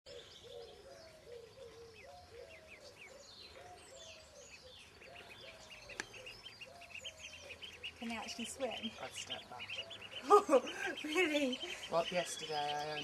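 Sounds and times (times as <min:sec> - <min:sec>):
ducklings peeping: 0:00.1 - 0:13.0.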